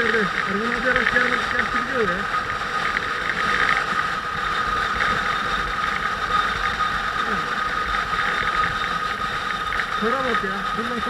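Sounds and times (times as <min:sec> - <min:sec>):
constant rushing noise: 0:00.0 - 0:11.0
motorcycle engine drone: 0:00.0 - 0:11.0.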